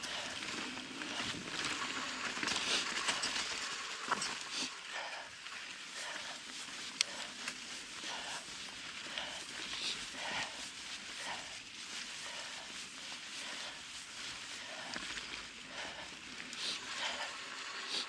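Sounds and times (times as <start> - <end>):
heavy breathing: 0.0 - 1.6, 4.4 - 18.0
trail noise: 0.0 - 18.0.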